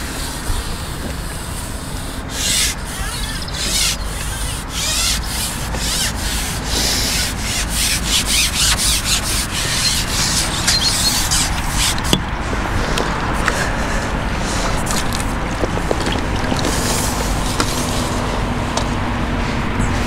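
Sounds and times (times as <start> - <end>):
irregular rubbing and scraping: 0.0 - 19.0
steady low rumble: 0.0 - 20.0.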